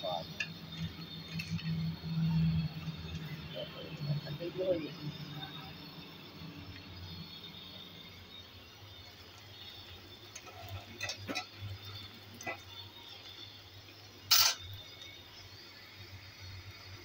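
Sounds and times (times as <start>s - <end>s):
fries sizzling in oil: 0.0s - 17.0s.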